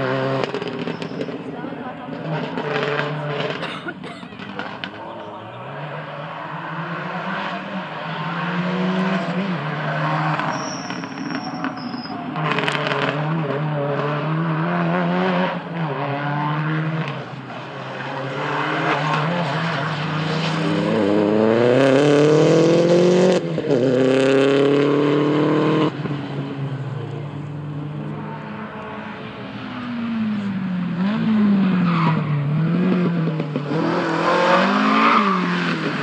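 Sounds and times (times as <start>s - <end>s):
car accelerating: 0.0s - 36.0s
rally car engines revving: 0.0s - 36.0s.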